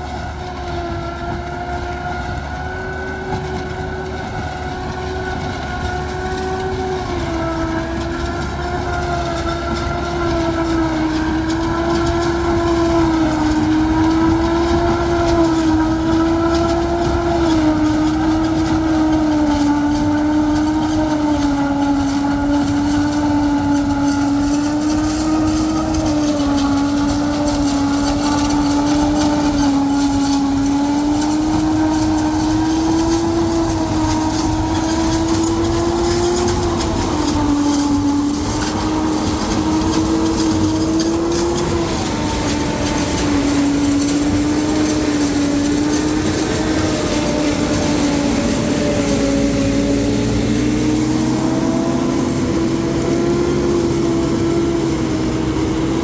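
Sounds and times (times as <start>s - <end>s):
silage harvester whine: 0.0s - 56.0s
tractor engine rumble: 0.0s - 56.0s.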